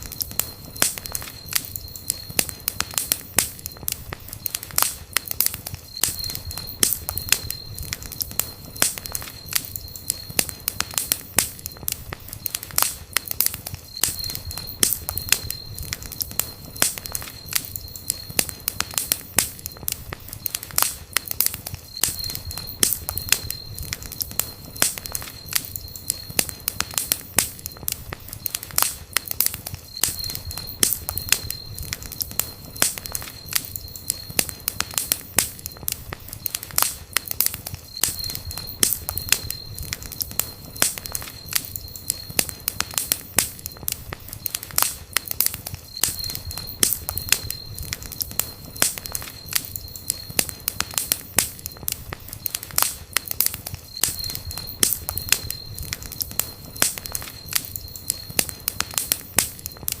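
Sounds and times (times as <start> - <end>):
thin high whistle: 0.0 - 12.8, 21.5 - 43.8, 44.4 - 51.8, 52.4 - 59.8
campfire crackling and popping: 0.0 - 60.0.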